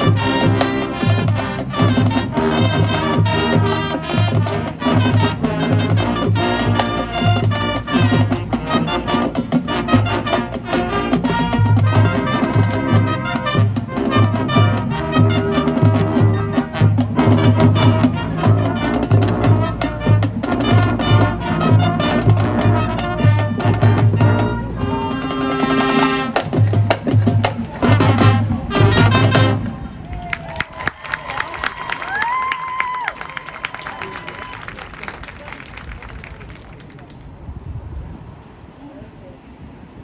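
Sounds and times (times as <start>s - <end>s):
marching band brass: 0.0s - 37.1s.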